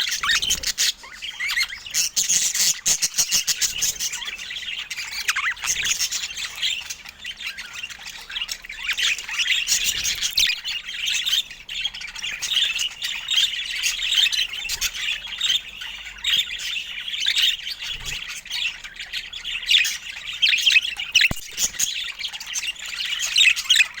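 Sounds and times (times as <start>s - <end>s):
budgerigars chattering and warbling: 0.0s - 24.0s.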